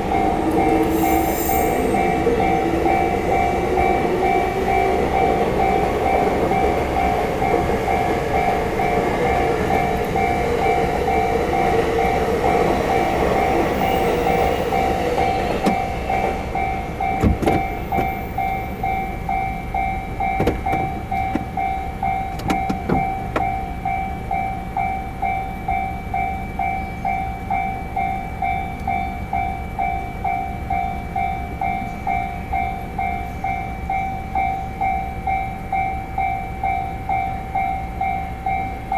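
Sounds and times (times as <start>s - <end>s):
level-crossing alarm ringing: 0.0s - 38.9s
train rumbling past: 0.0s - 38.9s.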